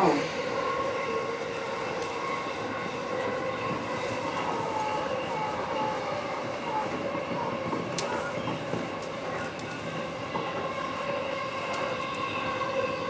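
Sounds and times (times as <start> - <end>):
train wheels rumbling on rail: 0.0 - 13.0
train whine: 0.0 - 13.0.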